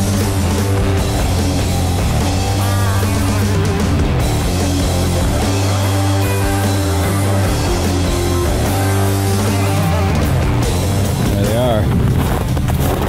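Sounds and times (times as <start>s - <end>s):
rock music with heavy guitars: 0.0s - 12.8s.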